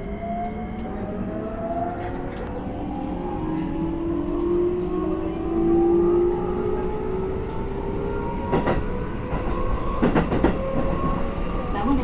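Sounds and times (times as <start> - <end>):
train running rumble: 1.0 - 12.0.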